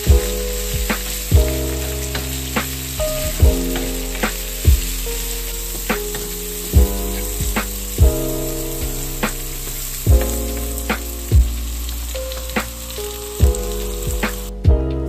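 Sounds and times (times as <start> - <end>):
chicken sizzling in a frying pan: 0.0 - 14.5
background music: 0.0 - 15.0.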